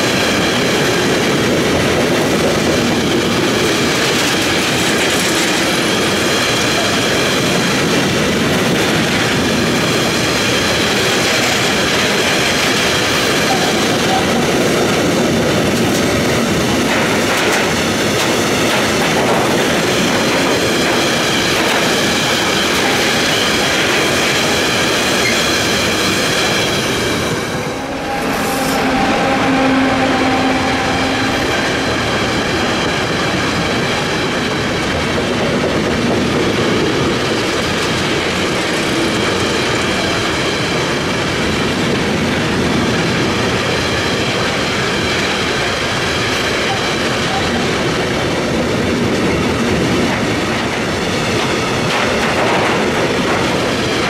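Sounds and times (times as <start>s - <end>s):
train wheels clattering on rails: 0.0s - 29.4s, 30.8s - 54.0s
train low hum: 0.0s - 54.0s.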